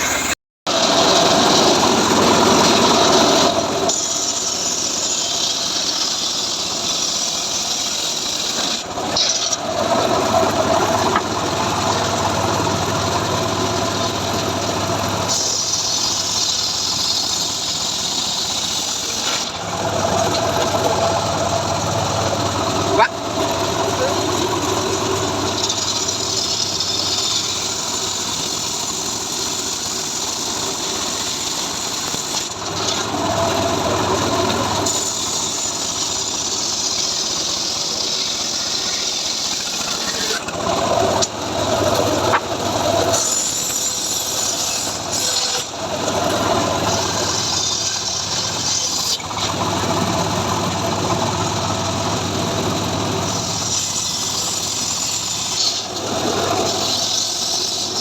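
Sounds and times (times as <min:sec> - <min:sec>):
engine-driven saw cutting logs: 0:00.0 - 0:58.0.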